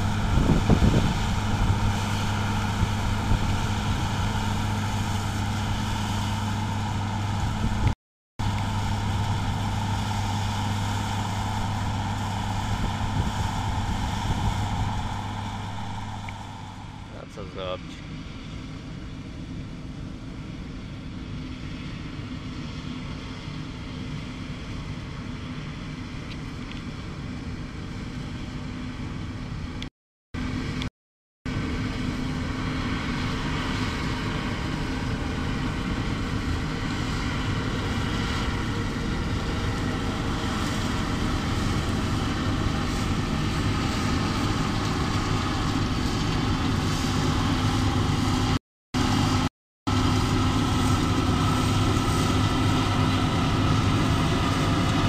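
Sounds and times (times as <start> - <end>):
combine harvester engine and machinery: 0.0 - 30.9, 31.5 - 55.0.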